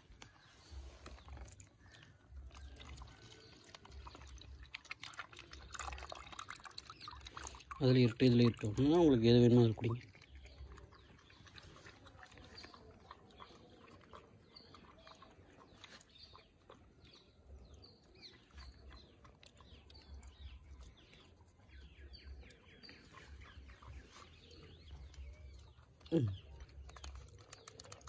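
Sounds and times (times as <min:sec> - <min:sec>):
birds chirping: 0:00.0 - 0:28.0
puppies lapping milk: 0:00.0 - 0:28.0.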